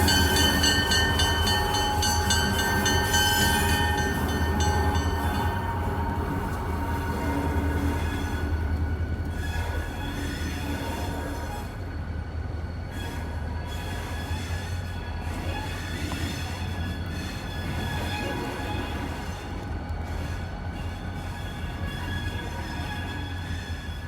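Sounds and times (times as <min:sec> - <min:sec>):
locomotive engine rumble: 0:00.0 - 0:24.0
wheels squealing on rails: 0:00.0 - 0:24.0.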